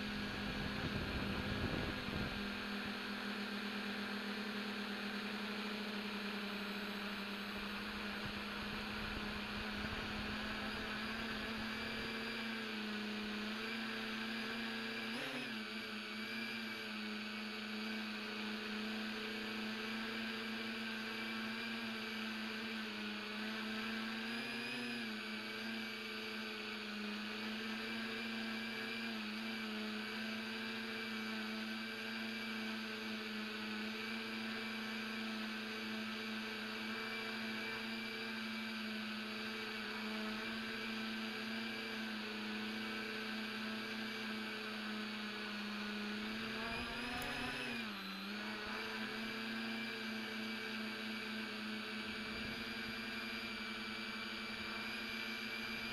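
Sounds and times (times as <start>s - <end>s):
drone motors whining hum: 0.0s - 55.9s.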